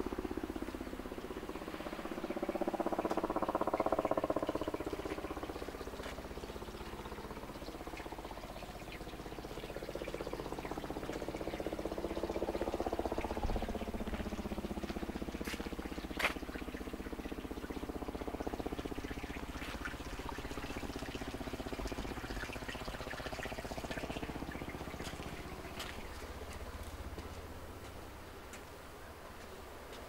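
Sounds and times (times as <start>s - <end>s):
low drone: 0.0s - 27.8s
water trickling: 0.0s - 28.4s.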